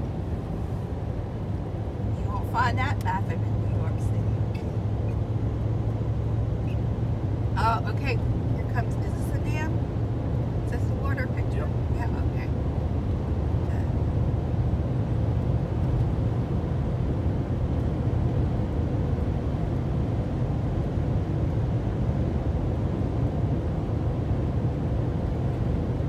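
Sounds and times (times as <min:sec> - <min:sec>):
car road noise rumble: 0:00.0 - 0:26.0.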